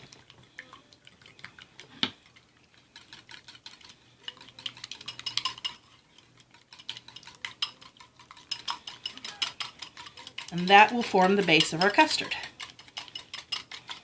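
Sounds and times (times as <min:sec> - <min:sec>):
whisk clicking against bowl: 0:00.0 - 0:14.0.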